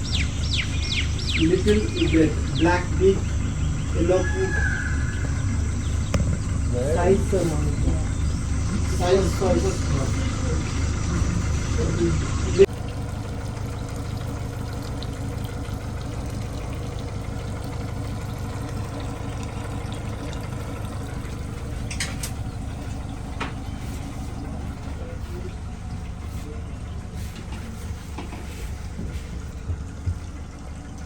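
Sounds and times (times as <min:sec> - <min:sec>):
motorboat engine running: 0:00.0 - 0:31.0
water around a hull: 0:00.0 - 0:31.0.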